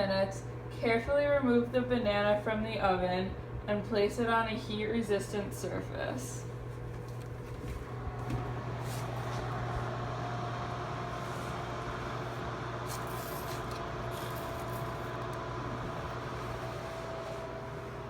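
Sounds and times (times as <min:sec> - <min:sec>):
oven humming: 0:00.0 - 0:18.0.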